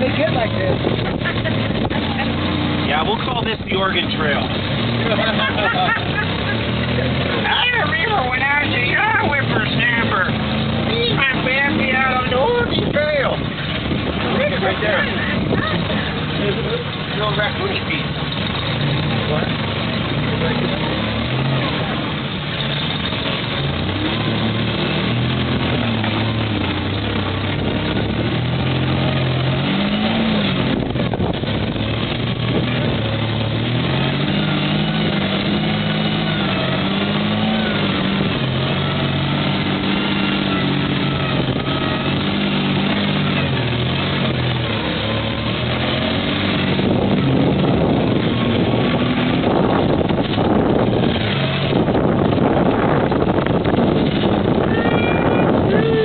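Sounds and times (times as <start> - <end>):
truck engine revving over rocks: 0.0 - 56.0.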